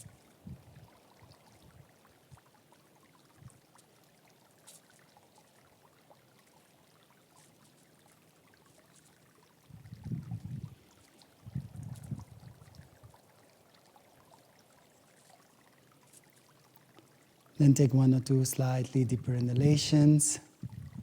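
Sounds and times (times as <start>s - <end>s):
faint stream trickling: 0.0s - 21.0s.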